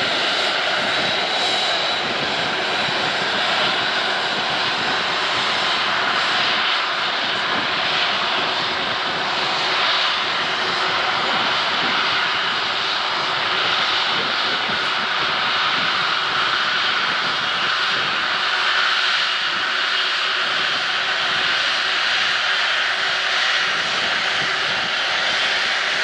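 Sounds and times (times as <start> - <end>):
jet engines at taxi power: 0.0 - 26.0.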